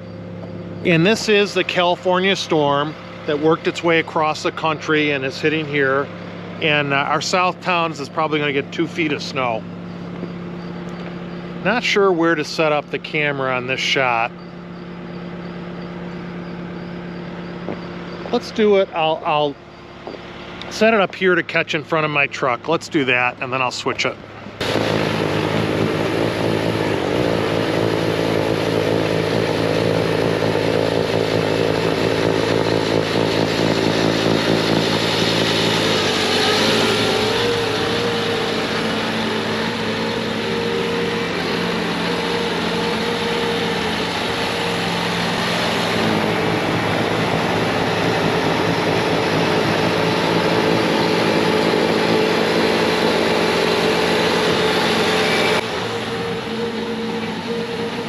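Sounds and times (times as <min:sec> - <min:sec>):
snowblower through heavy snow: 0:00.0 - 0:22.6, 0:23.2 - 0:58.0
diesel engine at full throttle: 0:00.0 - 0:58.0.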